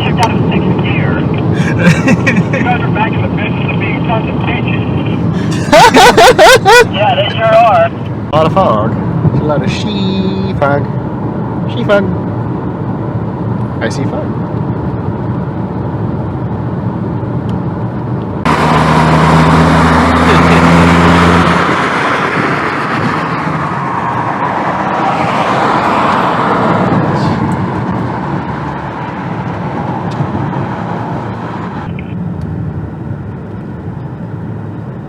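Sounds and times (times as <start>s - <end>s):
car wind and road noise: 0.0s - 35.0s
low engine hum: 0.0s - 35.0s.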